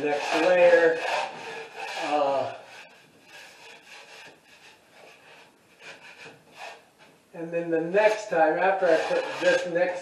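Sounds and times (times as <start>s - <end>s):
drywall knife scraping: 0.0s - 6.9s, 8.0s - 10.0s.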